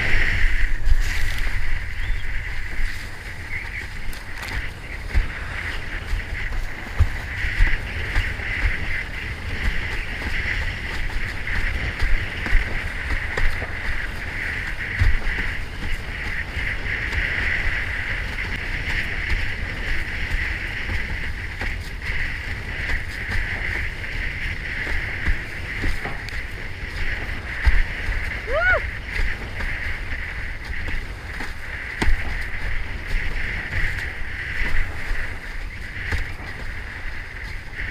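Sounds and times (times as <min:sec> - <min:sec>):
board thumping on waves: 0:00.0 - 0:37.9
rushing water and spray: 0:00.0 - 0:37.9
wind rumbling on microphone: 0:00.0 - 0:37.9.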